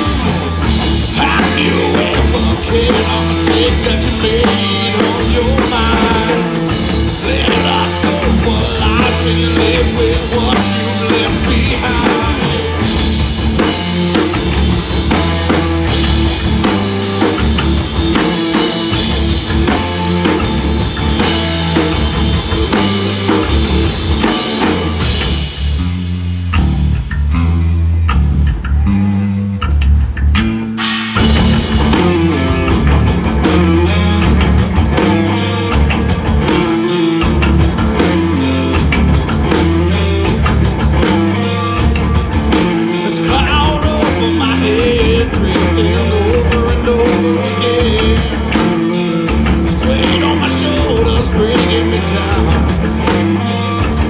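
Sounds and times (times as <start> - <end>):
drum kit and cymbals: 0.0 - 54.0
electric bass: 0.0 - 54.0
electric guitars: 0.0 - 54.0.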